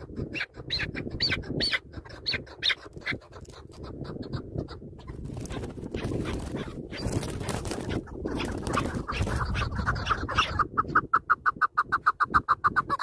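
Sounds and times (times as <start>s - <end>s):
partridge squawking calls: 0.0s - 13.0s.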